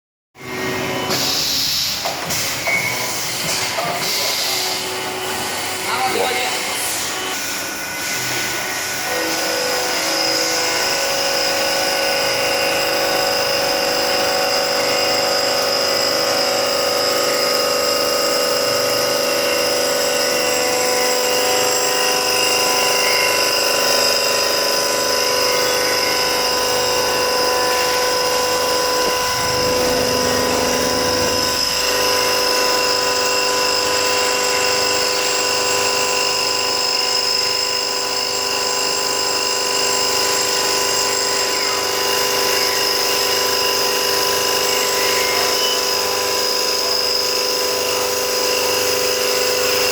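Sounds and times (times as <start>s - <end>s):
milling machine spindle whine: 0.4s - 49.9s.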